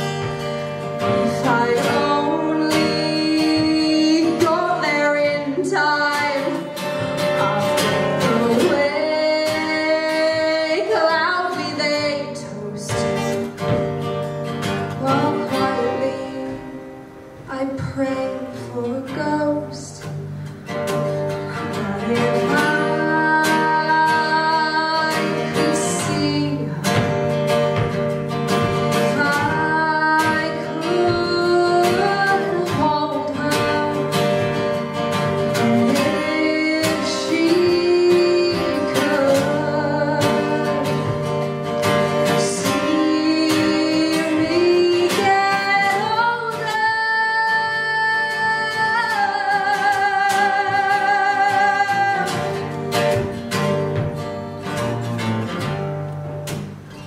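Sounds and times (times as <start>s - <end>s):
woman singing into a microphone: 0.0s - 53.3s
plucked acoustic guitar: 0.0s - 57.0s.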